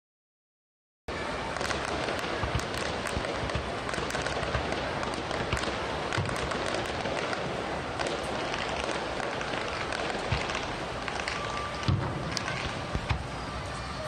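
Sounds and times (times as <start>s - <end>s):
fireworks booming: 1.1s - 14.0s
fireworks crackling and popping: 1.1s - 14.0s.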